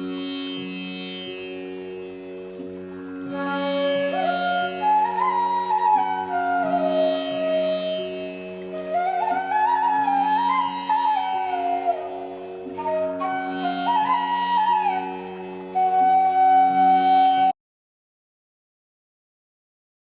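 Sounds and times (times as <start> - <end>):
sliding melody instrument: 0.0 - 17.6.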